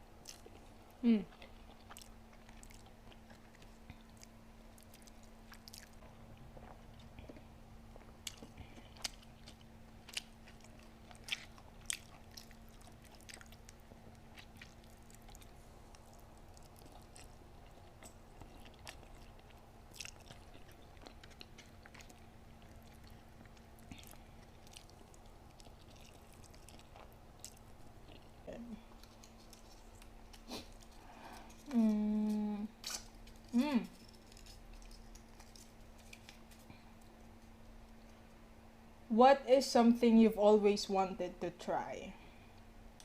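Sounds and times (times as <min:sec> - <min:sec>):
person chewing food: 0:00.2 - 0:38.3.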